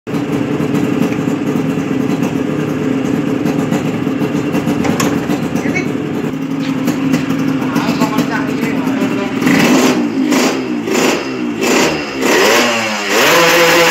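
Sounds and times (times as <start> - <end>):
motorcycle engine running: 0.1 - 13.9.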